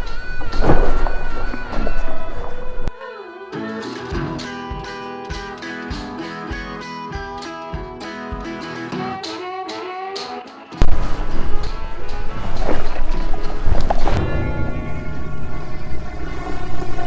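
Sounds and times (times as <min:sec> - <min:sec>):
guitar-led blues music: 0:00.0 - 0:17.0.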